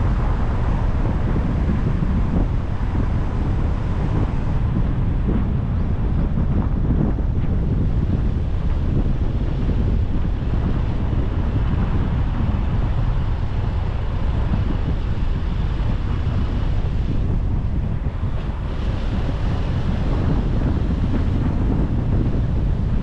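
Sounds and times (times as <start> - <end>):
road noise: 0.0 - 23.0
wind rumble on microphone: 0.0 - 23.0
wind rushing past car: 0.0 - 23.0.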